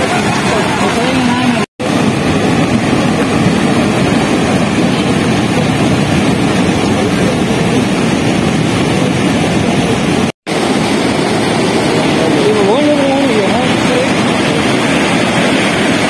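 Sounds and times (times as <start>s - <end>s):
flood torrent rushing: 0.0s - 16.0s.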